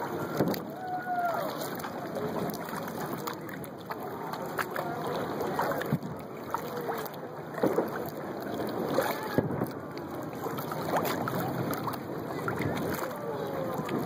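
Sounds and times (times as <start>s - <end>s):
small clicks and drips: 0.0s - 14.0s
water splashing against kayak hull: 0.0s - 14.0s.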